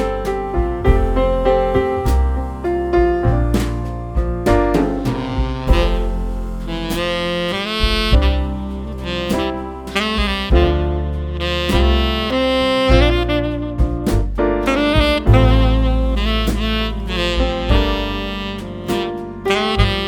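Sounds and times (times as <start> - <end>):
jazzy saxophone music: 0.0 - 20.0.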